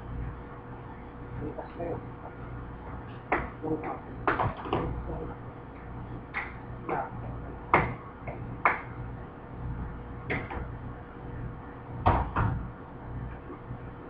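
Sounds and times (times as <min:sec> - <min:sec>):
low hum of kitchen machinery: 0:00.0 - 0:14.0.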